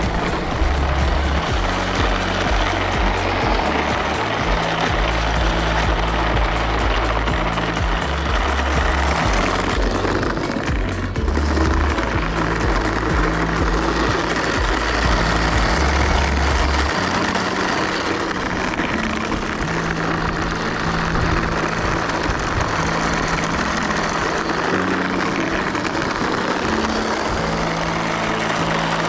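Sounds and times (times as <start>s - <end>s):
low hum shifting in pitch: 0.0s - 29.0s
toy truck mechanical running: 0.0s - 29.0s.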